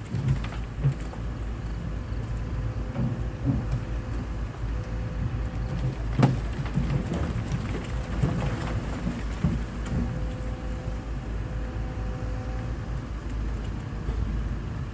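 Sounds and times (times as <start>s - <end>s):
diesel engine rumble: 0.0s - 14.9s.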